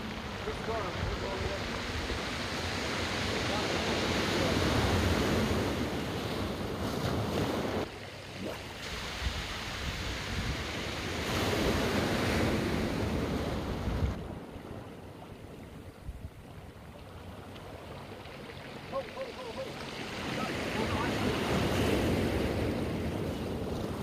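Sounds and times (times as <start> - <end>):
ocean surf breaking on rocks: 0.0 - 7.9, 9.0 - 14.9, 17.4 - 24.0.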